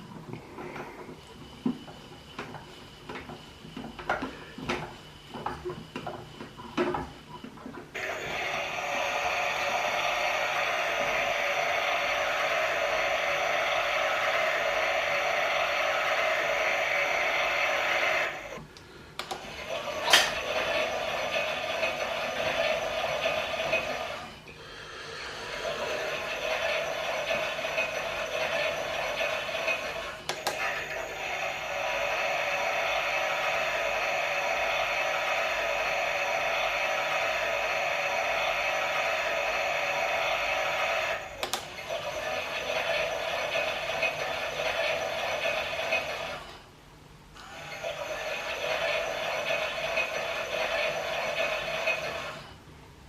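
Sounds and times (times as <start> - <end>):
toy washing machine motor whine: 0.0 - 46.7, 47.4 - 52.6.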